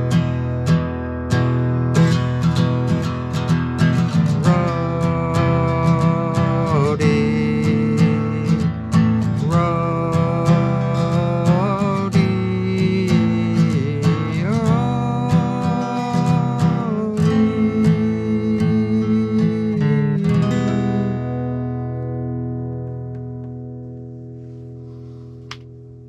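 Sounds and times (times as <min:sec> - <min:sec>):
bending lead guitar melody: 0:00.0 - 0:26.0
guitar strumming: 0:00.0 - 0:26.0.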